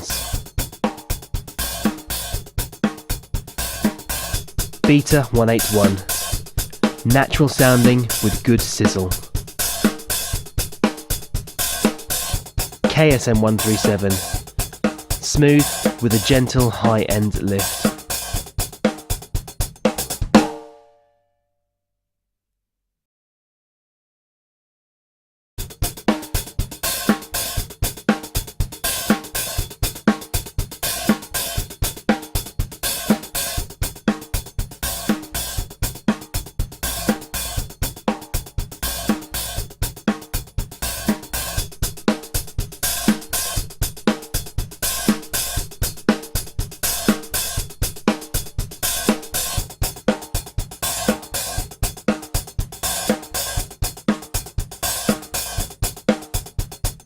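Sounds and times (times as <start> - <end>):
acoustic drum kit groove: 0.0 - 20.6, 25.6 - 57.0.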